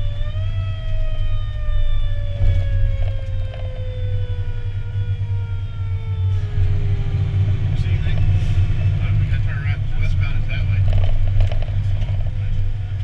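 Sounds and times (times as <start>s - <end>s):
fire engine siren falling: 0.0s - 12.4s
truck engine and tyres rumble: 0.0s - 13.0s.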